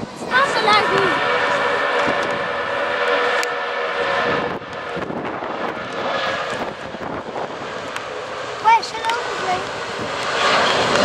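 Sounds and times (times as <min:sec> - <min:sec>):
jet engine roar: 0:00.0 - 0:11.0
jet engine whine: 0:00.0 - 0:11.0.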